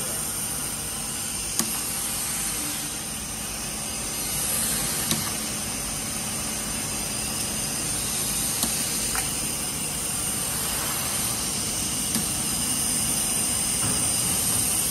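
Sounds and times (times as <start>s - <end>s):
hissing machine noise: 0.0s - 14.9s.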